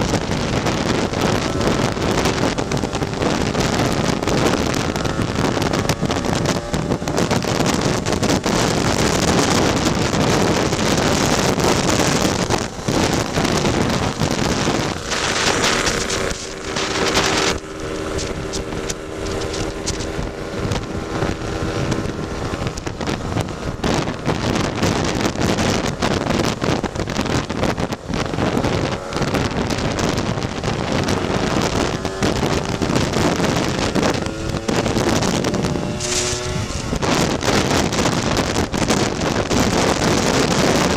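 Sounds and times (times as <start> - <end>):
scooter engine running: 0.0 - 40.9
wind buffeting microphone: 0.0 - 40.9.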